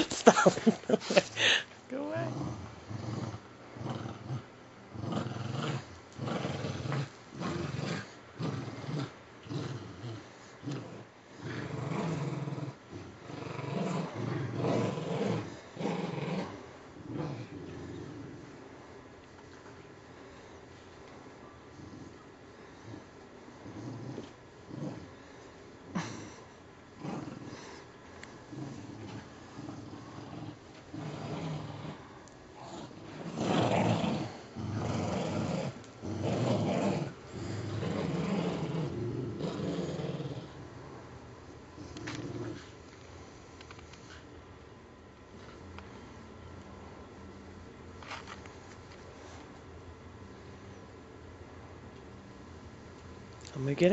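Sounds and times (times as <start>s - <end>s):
dogs play-growling: 0.0s - 44.4s.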